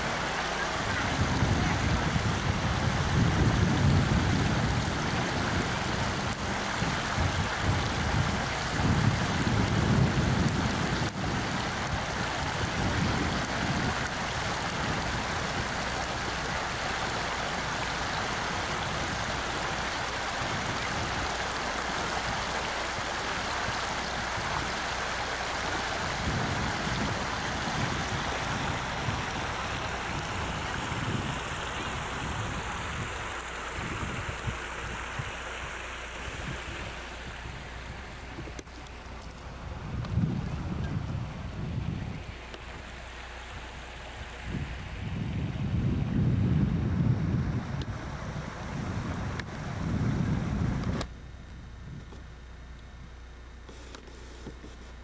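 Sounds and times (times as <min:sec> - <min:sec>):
river running over stones: 0:00.0 - 0:45.9
wind buffeting microphone: 0:00.0 - 0:51.1.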